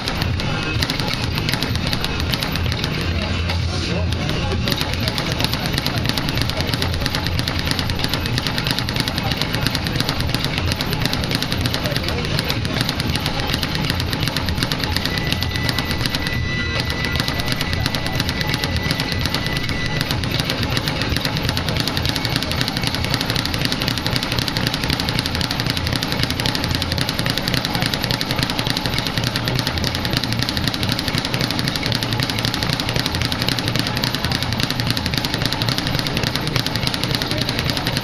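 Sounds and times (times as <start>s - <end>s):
speed bag drumming: 0.0s - 38.0s.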